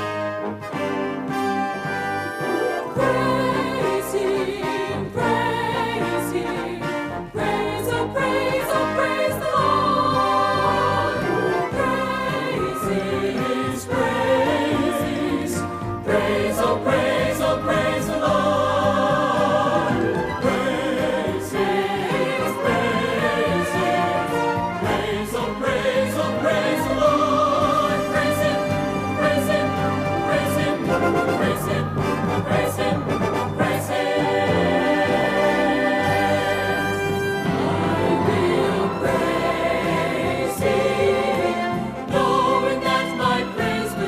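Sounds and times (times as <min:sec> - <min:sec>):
gospel vocal ensemble singing: 0:02.7 - 0:44.0.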